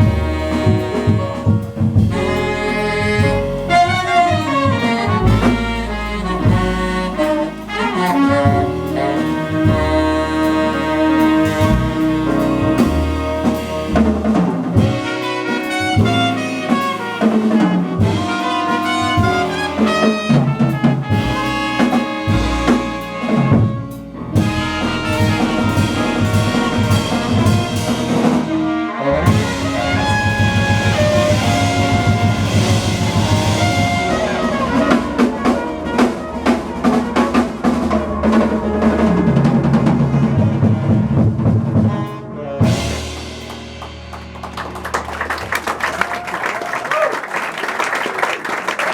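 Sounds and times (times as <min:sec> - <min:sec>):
jazz band playing: 0:00.0 - 0:48.9.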